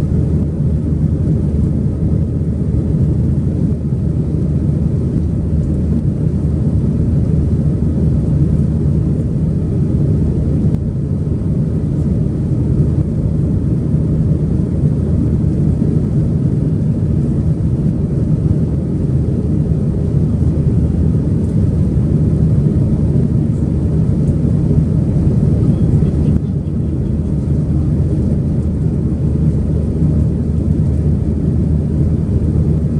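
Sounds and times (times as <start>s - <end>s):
airliner cabin engine roar: 0.0s - 32.9s.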